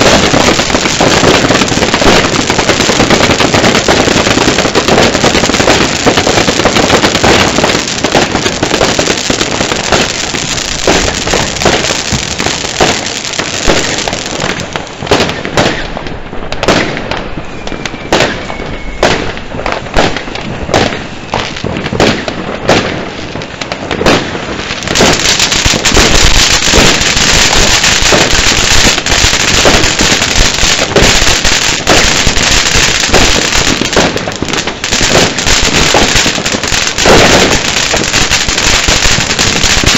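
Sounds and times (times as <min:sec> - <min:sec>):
firework fountains hissing and crackling: 0:00.0 - 0:39.9.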